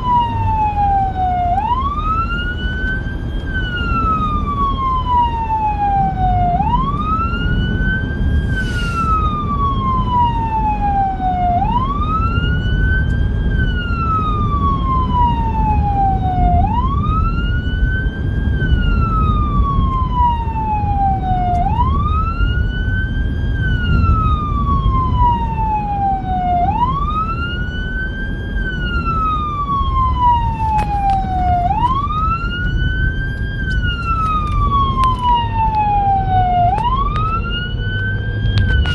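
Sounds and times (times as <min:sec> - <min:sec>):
electronic siren wailing: 0:00.0 - 0:38.9
vehicle road and engine noise: 0:00.0 - 0:38.9.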